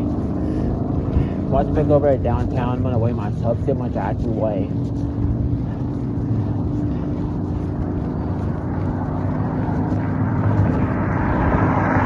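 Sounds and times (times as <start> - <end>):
low hum: 0.0 - 12.0
vehicle engine rumble: 0.0 - 12.0.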